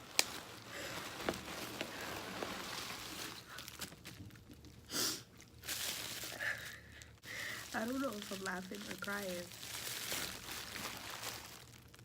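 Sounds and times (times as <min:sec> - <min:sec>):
packaging rustling: 0:00.0 - 0:04.5, 0:05.4 - 0:12.0.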